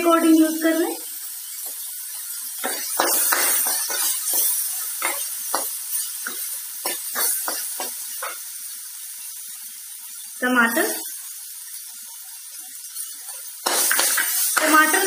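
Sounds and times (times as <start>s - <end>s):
vegetables sizzling: 0.0s - 15.0s.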